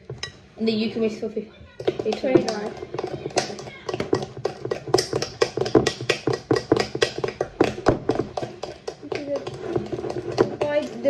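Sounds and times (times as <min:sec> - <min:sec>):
spoon tapping mixing bowl: 0:00.0 - 0:01.1, 0:01.8 - 0:11.0.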